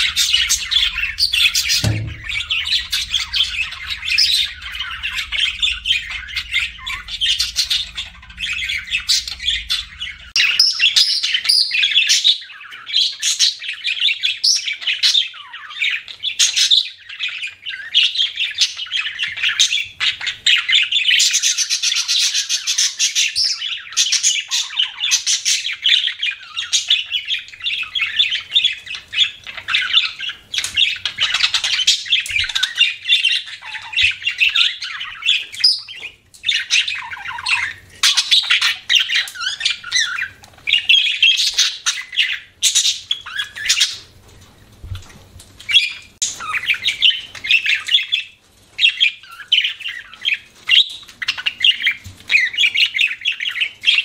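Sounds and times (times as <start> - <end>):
budgerigars chattering and warbling: 0.0 - 44.1, 45.6 - 54.0.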